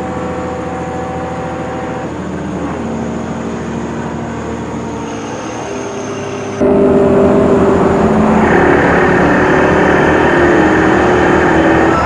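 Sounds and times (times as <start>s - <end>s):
heavy truck engine droning: 0.0s - 12.0s.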